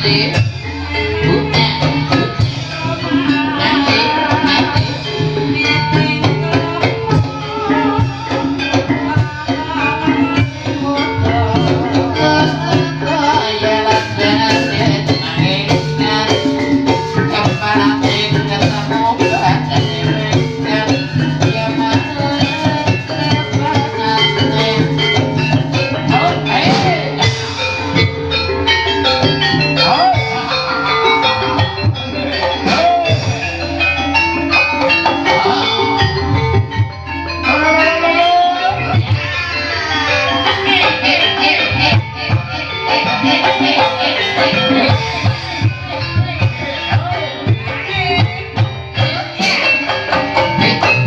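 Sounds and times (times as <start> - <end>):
drums and pitched percussion ensemble: 0.0 - 51.0.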